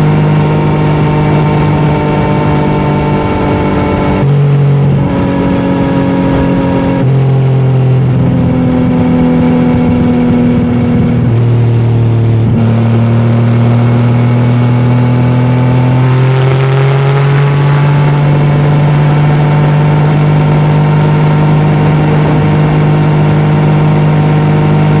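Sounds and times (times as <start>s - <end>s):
motorcycle engine at highway speed: 0.0s - 25.0s.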